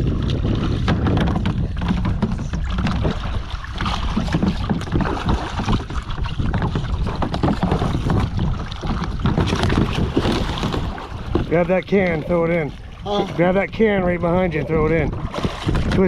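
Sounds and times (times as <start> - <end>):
water splashing around kayak: 0.0 - 16.0
wind rumbling on microphone: 0.0 - 16.0.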